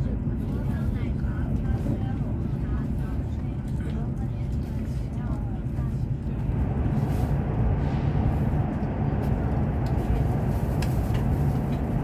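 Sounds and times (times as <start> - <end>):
train rumble inside cabin: 0.0 - 12.0.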